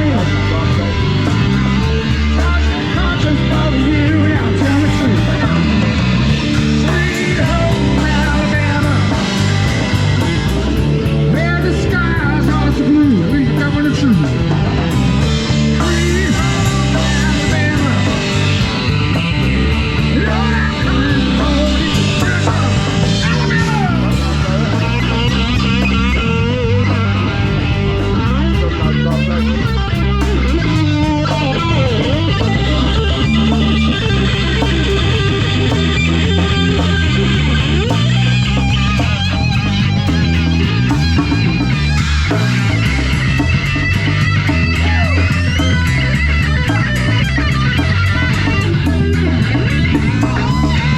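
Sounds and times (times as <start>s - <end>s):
electric guitar: 0.0s - 50.9s
live rock band playing: 0.0s - 50.9s.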